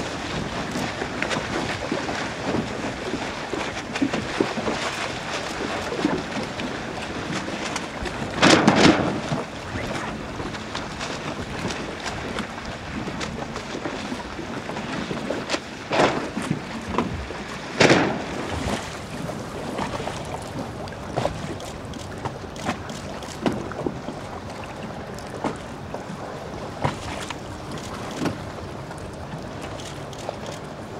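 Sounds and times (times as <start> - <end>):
choppy water splashing: 0.0 - 30.9
wind: 0.0 - 30.9.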